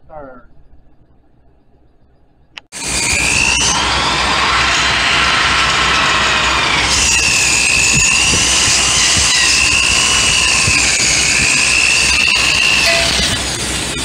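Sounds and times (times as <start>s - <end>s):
electric drill wire wheel grinding: 2.8s - 14.0s.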